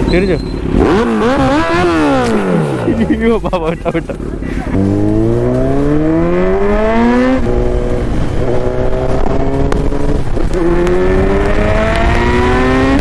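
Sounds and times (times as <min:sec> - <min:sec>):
motorcycle engine accelerating hard: 0:00.0 - 0:13.0.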